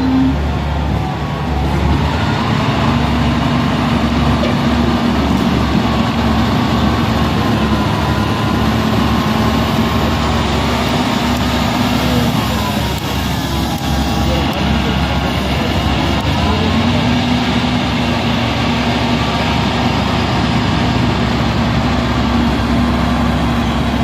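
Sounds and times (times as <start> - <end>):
diesel engine running: 0.0 - 24.0
held engine tone: 0.0 - 24.0.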